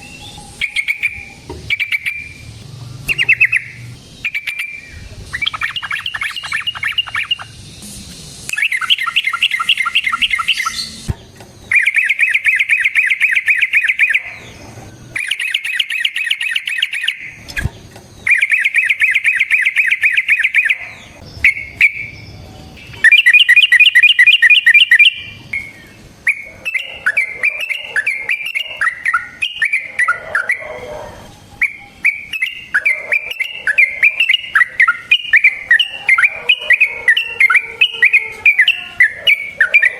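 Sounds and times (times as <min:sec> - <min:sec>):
bird chatter: 0:00.0 - 0:07.9, 0:08.5 - 0:39.9
bird singing rapid repeated notes: 0:00.0 - 0:39.9.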